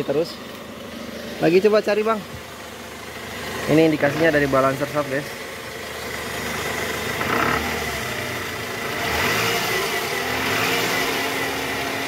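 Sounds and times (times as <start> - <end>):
car engine running: 0.0 - 12.0
rough engine rattle: 0.0 - 12.0.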